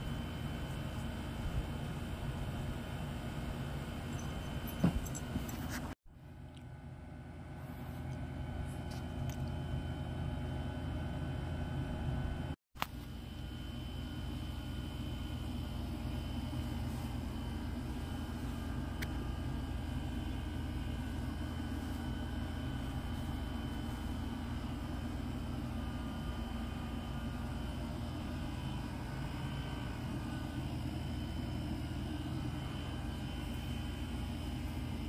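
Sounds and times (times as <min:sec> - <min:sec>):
faint high whine: 0:00.0 - 0:35.0
machine hum: 0:00.0 - 0:35.0.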